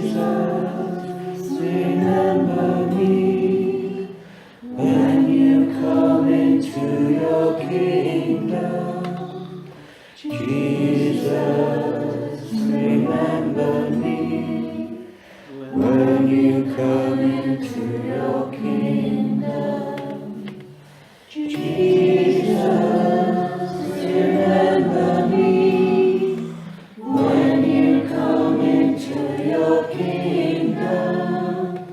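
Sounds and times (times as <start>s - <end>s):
choir singing: 0.0s - 31.9s.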